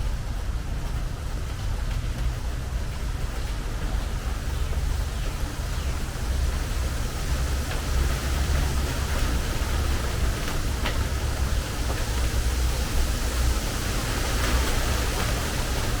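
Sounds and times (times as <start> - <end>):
low steady rumble: 0.0 - 16.0
rain on a metal roof: 0.0 - 16.0
sharp raindrops: 0.6 - 16.0.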